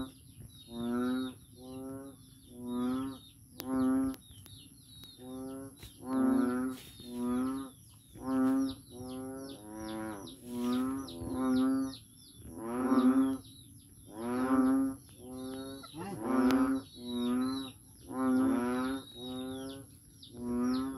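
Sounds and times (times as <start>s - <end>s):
faint bird chirps: 0.0s - 20.9s
frog calling: 0.0s - 20.9s.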